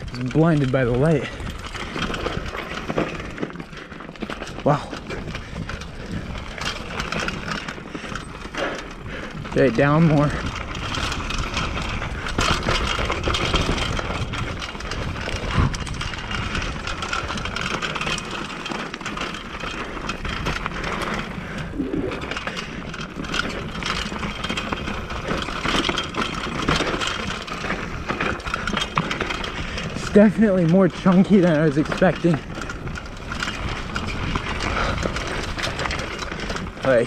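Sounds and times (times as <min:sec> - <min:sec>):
bike rattling: 0:00.0 - 0:37.0
bike tyres rumbling on rocky trail: 0:00.0 - 0:37.0.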